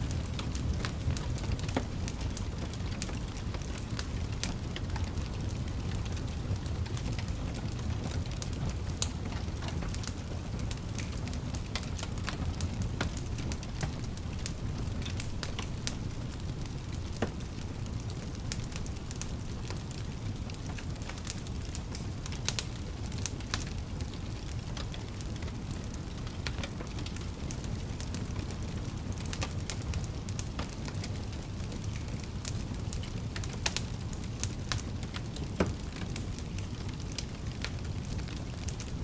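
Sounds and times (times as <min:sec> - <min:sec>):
flames rumbling in fireplace: 0:00.0 - 0:39.0
wood fire crackling and popping: 0:00.0 - 0:39.0.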